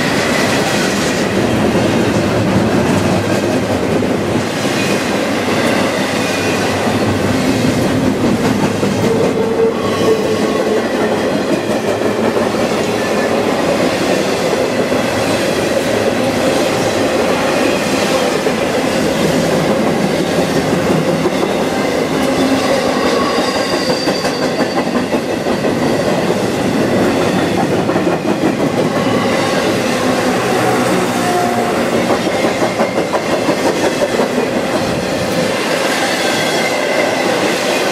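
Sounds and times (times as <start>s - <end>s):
freight train rolling past: 0.0s - 37.9s.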